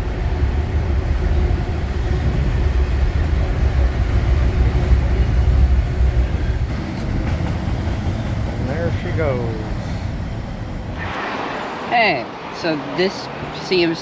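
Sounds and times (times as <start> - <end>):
train rumbling past: 0.0 - 13.9.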